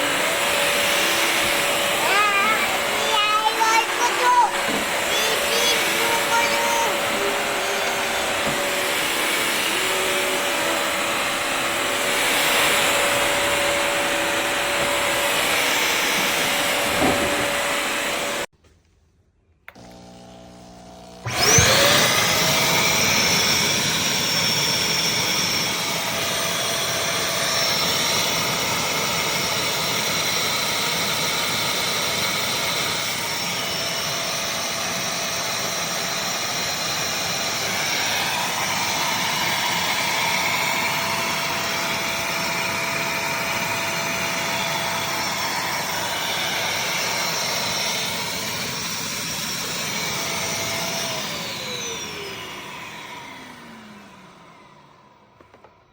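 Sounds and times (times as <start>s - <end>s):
vacuum mop motor running: 0.0s - 18.5s, 19.7s - 55.9s.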